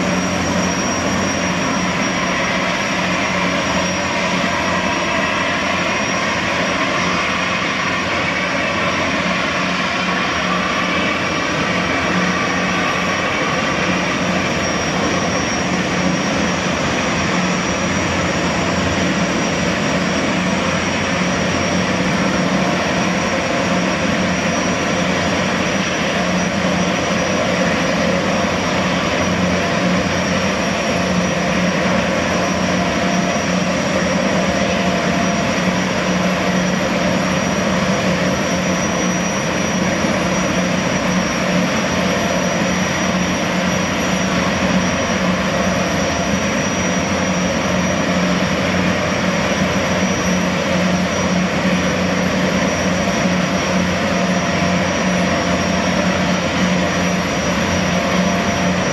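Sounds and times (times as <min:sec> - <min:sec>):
gas turbine whine: 0:00.0 - 0:58.9.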